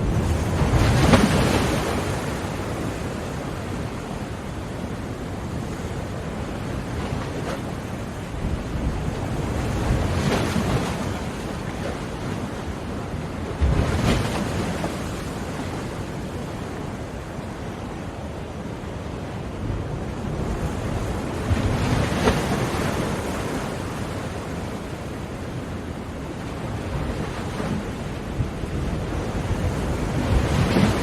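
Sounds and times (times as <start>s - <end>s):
waves breaking: 0.0s - 18.6s, 20.0s - 31.0s.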